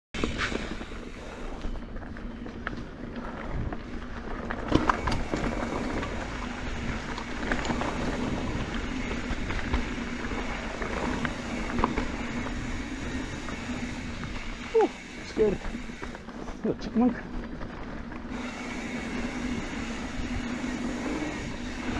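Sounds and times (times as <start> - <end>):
bike rattling: 0.2 - 21.9
tyre noise on dirt: 0.2 - 21.9.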